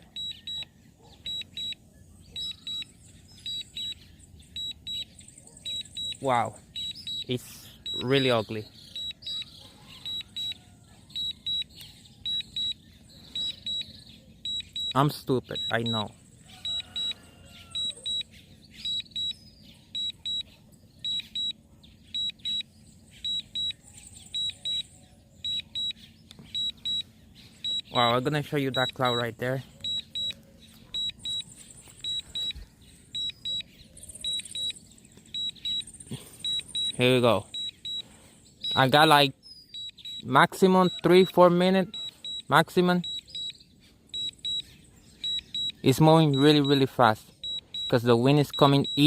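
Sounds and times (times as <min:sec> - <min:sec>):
high-pitched double beeps: 0:00.0 - 0:09.4, 0:10.0 - 0:17.2, 0:17.8 - 0:19.4, 0:20.0 - 0:43.6, 0:44.2 - 0:49.0.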